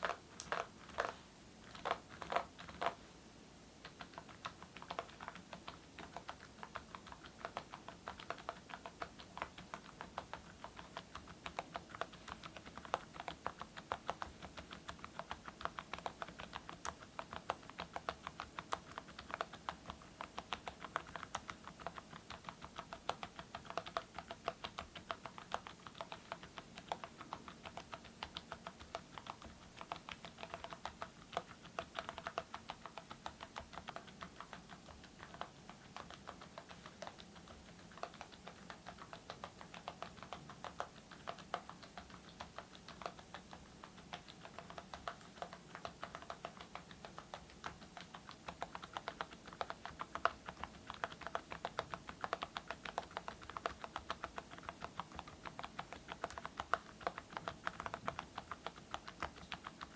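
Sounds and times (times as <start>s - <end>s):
mechanical keyboard typing: 0.0s - 3.0s, 3.8s - 59.9s.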